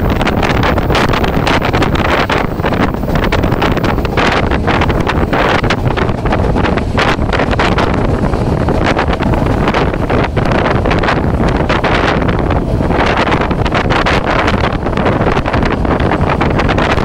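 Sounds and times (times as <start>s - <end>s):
train running inside carriage: 0.0s - 17.0s
wind buffeting microphone: 0.0s - 17.0s.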